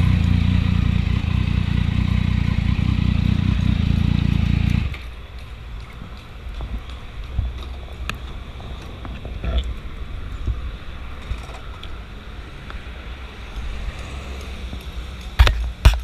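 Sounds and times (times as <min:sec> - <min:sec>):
motorcycle engine rumble: 0:00.0 - 0:13.6.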